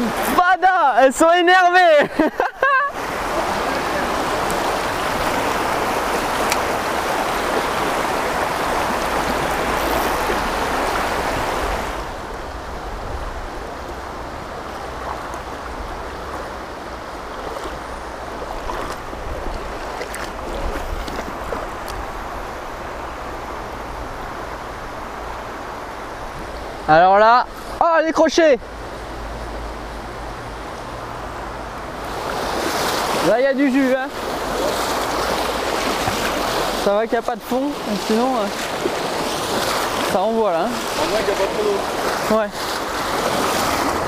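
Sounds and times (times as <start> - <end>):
gentle shallow water flow: 0.0 - 44.0
river water rushing over rapids: 0.0 - 44.0.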